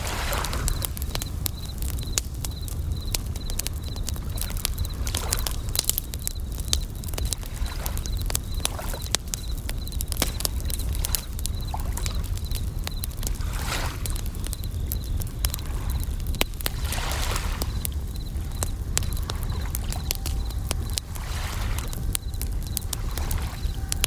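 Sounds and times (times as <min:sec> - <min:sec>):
waves washing in softly: 0:00.0 - 0:14.7, 0:15.4 - 0:24.0
bell crickets chirping: 0:00.0 - 0:24.0
campfire crackling and popping: 0:00.0 - 0:24.0.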